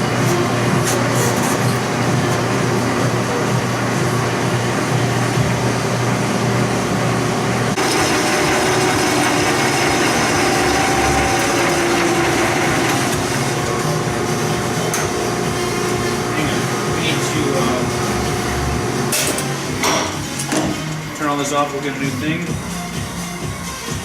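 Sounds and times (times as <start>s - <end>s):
metal lathe cutting: 0.0s - 19.8s.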